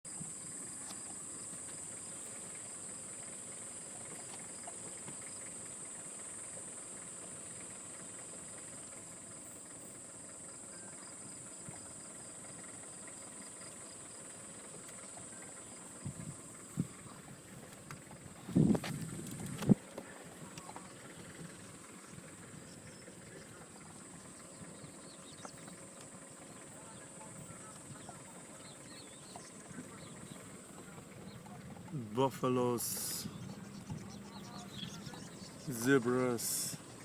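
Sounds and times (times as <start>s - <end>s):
insects droning: 0.1s - 37.0s.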